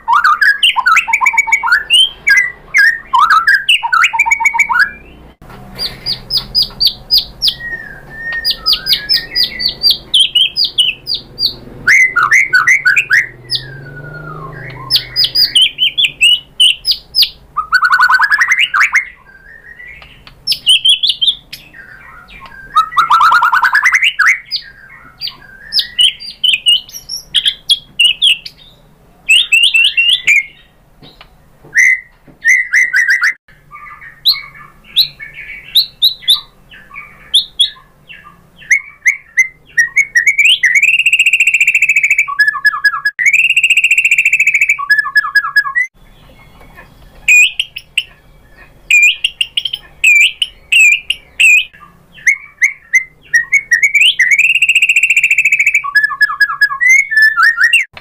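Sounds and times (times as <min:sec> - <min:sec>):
bird singing whistles and trills: 0:00.0 - 0:57.9.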